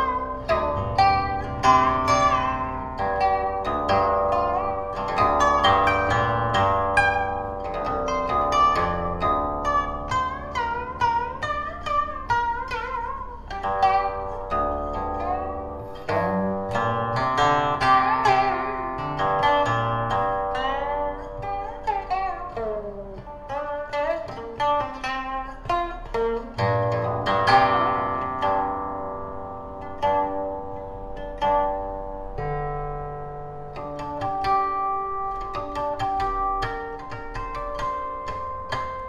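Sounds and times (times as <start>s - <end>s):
plucked zither with pitch slides: 0.0s - 39.0s.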